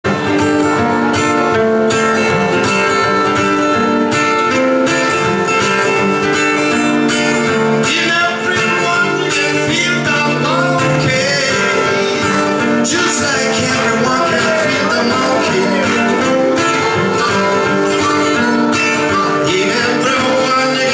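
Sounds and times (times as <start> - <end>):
fingerpicked acoustic guitar: 0.0 - 20.9.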